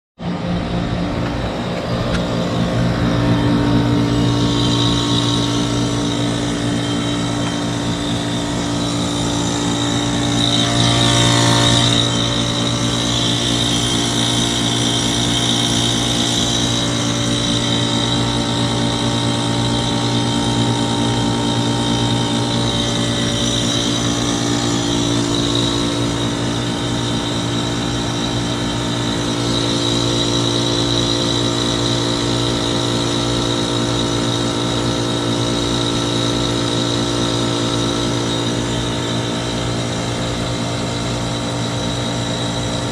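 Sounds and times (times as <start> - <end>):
heat pump electrical hum: 0.2 - 42.9
high whine: 0.2 - 42.9.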